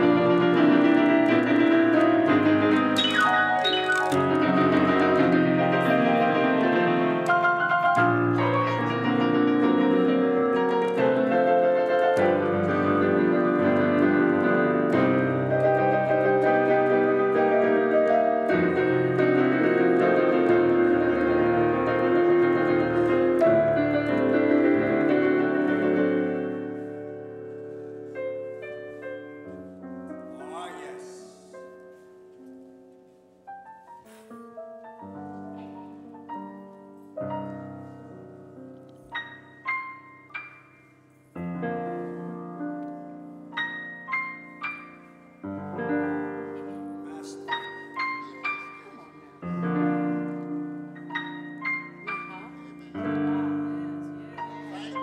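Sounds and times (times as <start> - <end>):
digital piano chords: 0.0 - 55.0.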